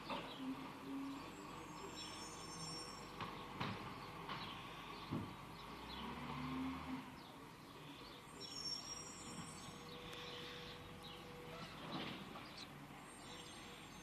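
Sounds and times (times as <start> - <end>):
birds chirping: 0.0 - 14.0
faint background noise: 0.0 - 14.0.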